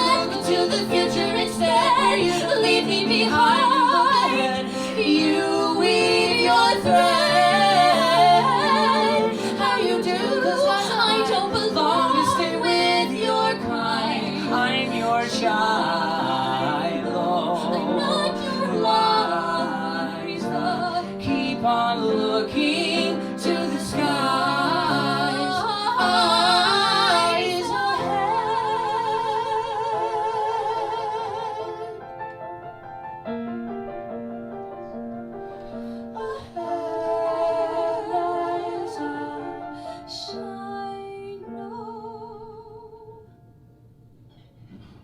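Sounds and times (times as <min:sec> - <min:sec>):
singing with vibrato: 0:00.0 - 0:32.0, 0:36.2 - 0:43.2.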